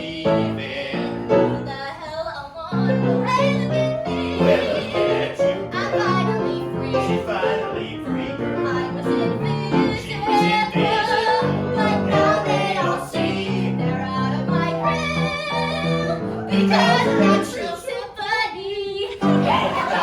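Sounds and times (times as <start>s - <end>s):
person singing with vibrato: 0.0s - 20.0s.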